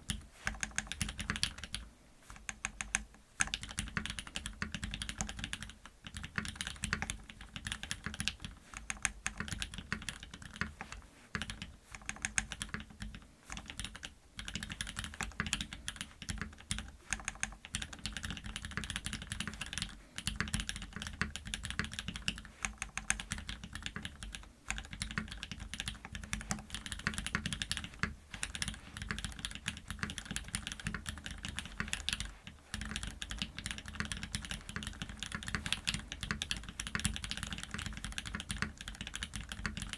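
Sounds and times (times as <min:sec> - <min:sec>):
mechanical keyboard typing: 0:00.1 - 0:01.8, 0:02.4 - 0:39.9.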